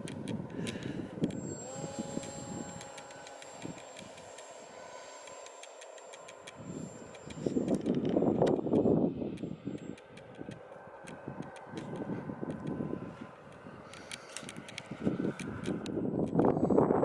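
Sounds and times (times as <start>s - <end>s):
small electric motor whine: 0.0s - 17.0s
wind buffeting microphone: 0.0s - 17.0s.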